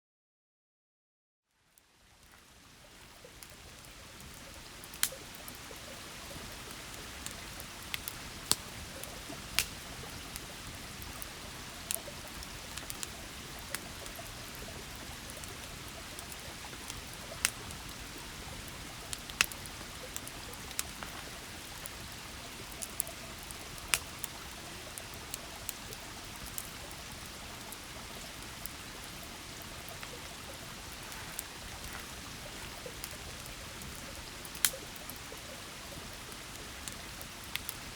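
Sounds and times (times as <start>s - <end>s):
river babbling: 3.0s - 37.9s.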